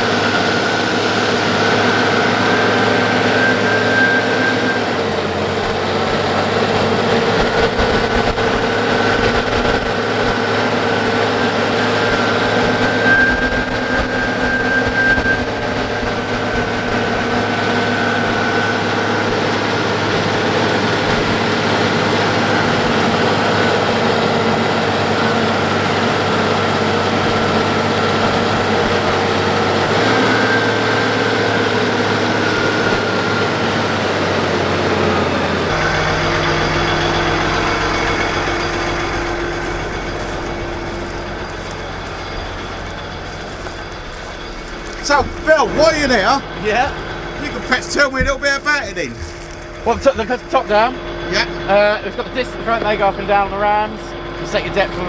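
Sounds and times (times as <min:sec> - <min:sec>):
diesel engine running: 0:00.0 - 0:55.0
high whine: 0:00.0 - 0:55.0.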